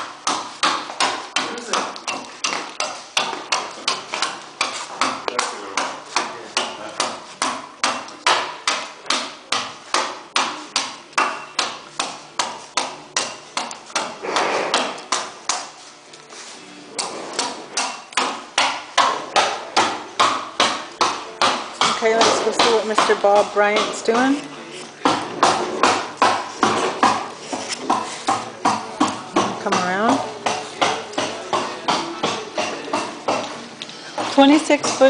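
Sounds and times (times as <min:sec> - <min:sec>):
carving tool chopping wood: 0:00.0 - 0:15.8, 0:17.0 - 0:33.6, 0:34.2 - 0:35.0.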